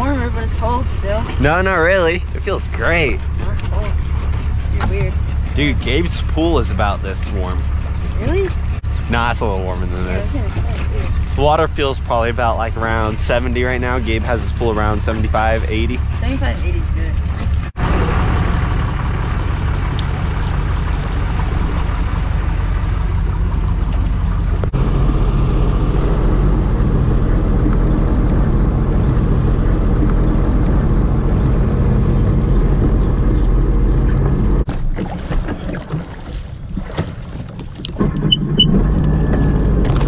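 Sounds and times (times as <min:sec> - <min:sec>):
jet ski engine running: 0:00.0 - 0:34.7.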